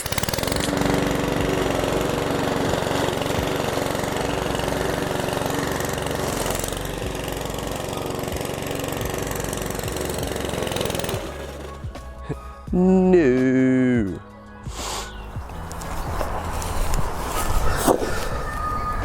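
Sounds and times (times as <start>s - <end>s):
lawn mower engine running: 0.0s - 12.4s, 14.8s - 18.3s.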